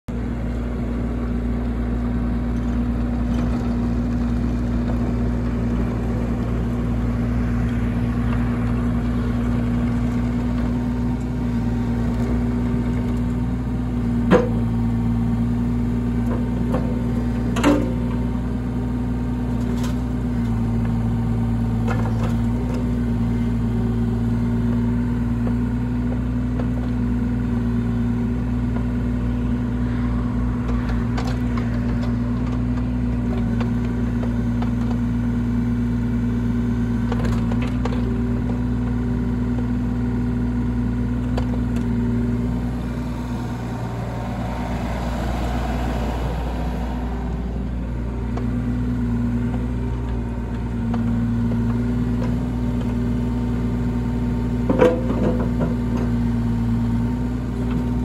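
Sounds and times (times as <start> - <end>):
excavator engine running: 0.1 - 58.0.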